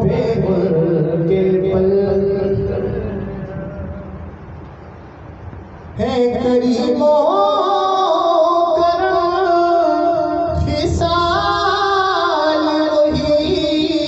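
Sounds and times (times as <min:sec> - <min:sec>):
man singing into a microphone: 0:00.0 - 0:04.0, 0:06.0 - 0:14.0.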